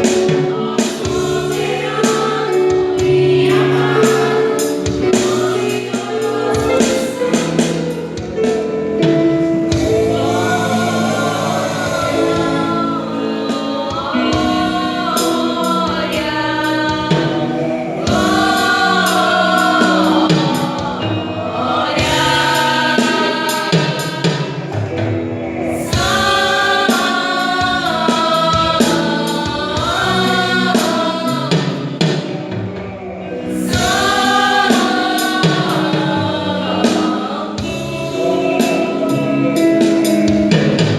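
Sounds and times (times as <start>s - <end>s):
gospel group singing in harmony: 0.0s - 40.9s
instrumental backing: 0.0s - 40.9s.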